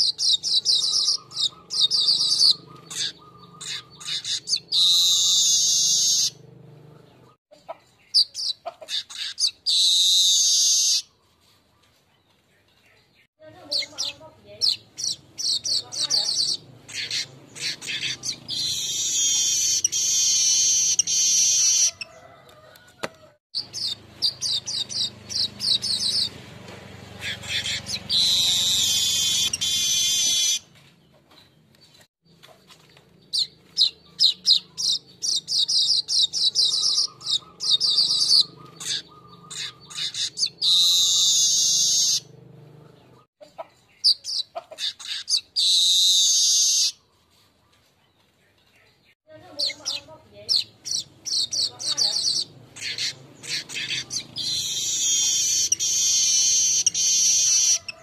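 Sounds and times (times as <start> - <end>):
bird chattering trills: 0.0 - 11.2, 13.4 - 22.1, 23.6 - 26.4, 27.1 - 30.7, 32.3 - 47.2, 49.3 - 58.0.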